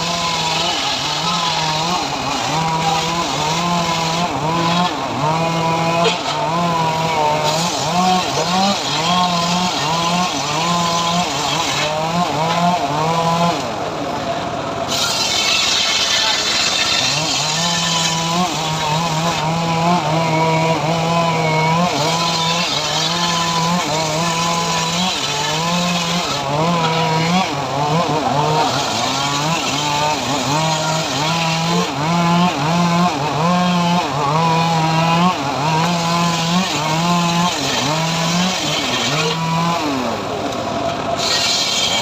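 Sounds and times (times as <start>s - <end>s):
sawmill cutting log: 0.0s - 42.0s.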